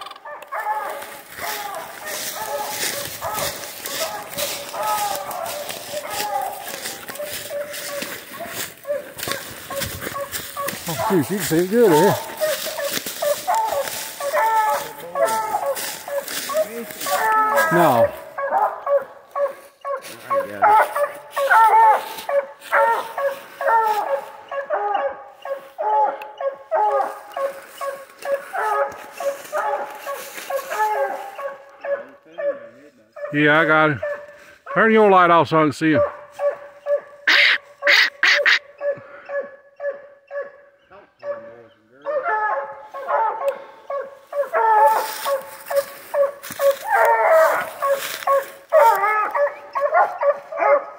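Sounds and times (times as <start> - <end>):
hounds barking: 0.0 - 50.9.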